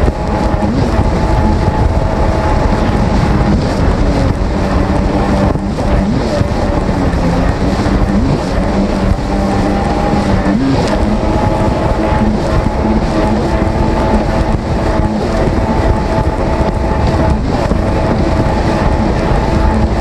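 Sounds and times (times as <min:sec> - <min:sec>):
jet ski engine running: 0:00.0 - 0:20.0
water rushing past hull: 0:00.0 - 0:20.0
wind buffeting microphone: 0:00.0 - 0:20.0.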